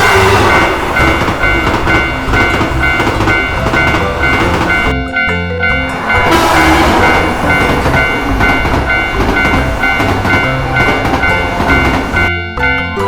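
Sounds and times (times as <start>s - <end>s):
railroad crossing bell ringing: 0.0s - 13.0s
train rumbling past: 0.0s - 13.0s
wheels clattering over rail joints: 0.0s - 13.0s.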